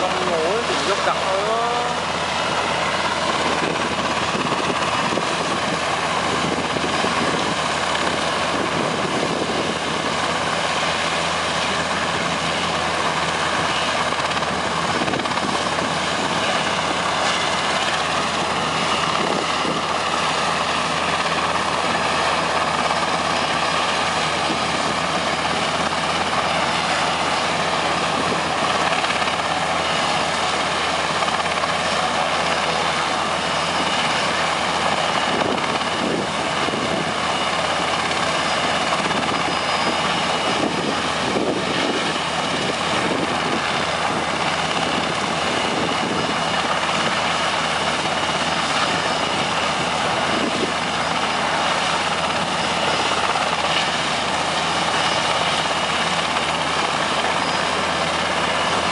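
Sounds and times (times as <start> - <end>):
helicopter rotor and turbine: 0.0 - 58.9.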